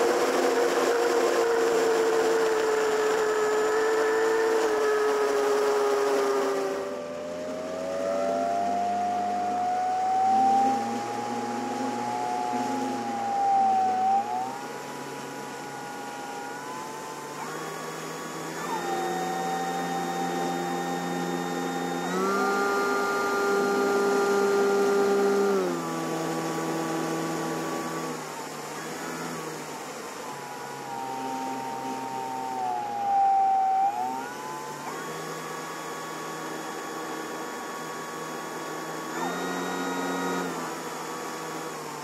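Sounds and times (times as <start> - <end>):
electric motor and propeller whine: 0.0 - 42.0.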